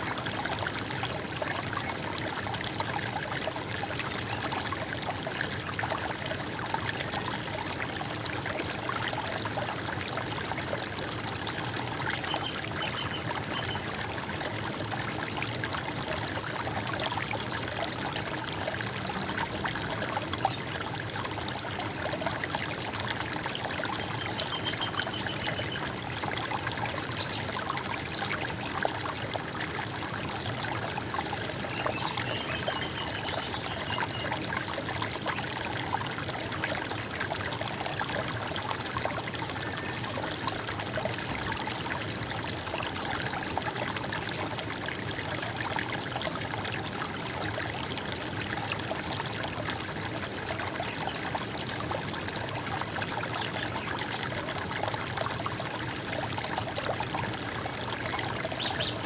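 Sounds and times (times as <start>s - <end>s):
stream gurgling: 0.0s - 59.0s.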